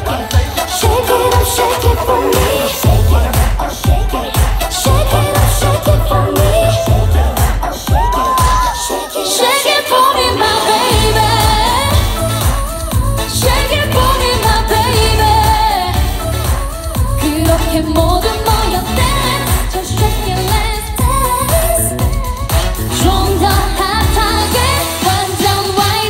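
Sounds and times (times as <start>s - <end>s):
woman singing into microphone: 0.0s - 3.3s, 3.9s - 26.0s
heavy bass beat: 0.0s - 9.0s, 10.9s - 26.0s
pop backing track: 0.0s - 26.0s.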